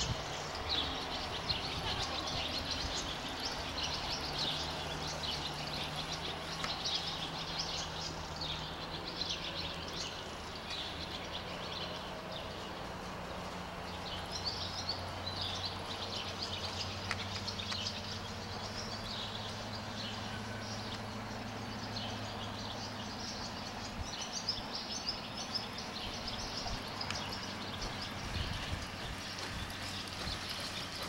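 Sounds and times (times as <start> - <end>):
small birds chirping and singing: 0.0 - 31.0.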